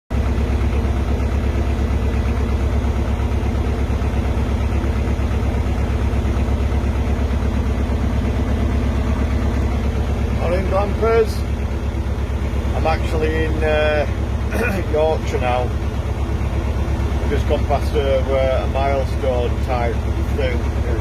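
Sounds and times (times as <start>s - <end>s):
diesel engine running: 0.1s - 21.0s.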